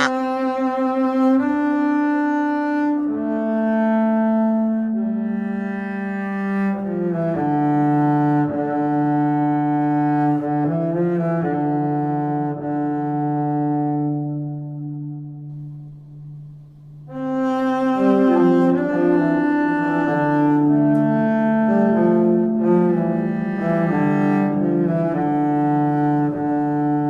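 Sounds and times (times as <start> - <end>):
low bowed cello melody: 0.0 - 27.0.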